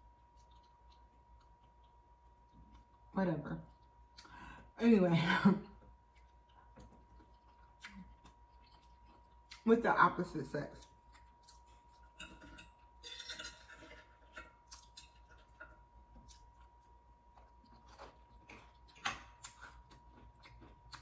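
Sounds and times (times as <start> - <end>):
chewing: 0.0 - 4.6, 5.8 - 9.7, 10.6 - 21.0.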